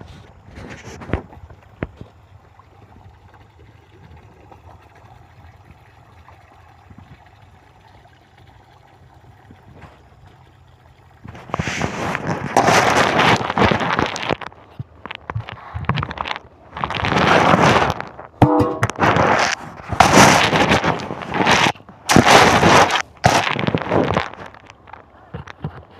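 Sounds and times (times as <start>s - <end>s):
fish splashing at water surface: 3.4s - 25.1s.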